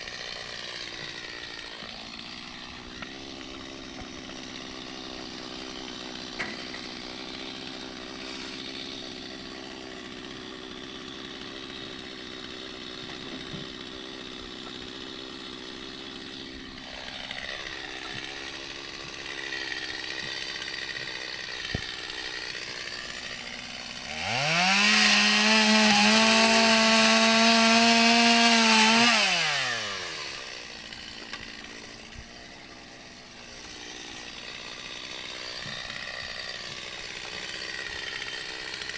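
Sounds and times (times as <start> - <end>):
chainsaw cutting metal: 0.0 - 38.9
chainsaw idling and revving: 0.0 - 38.9.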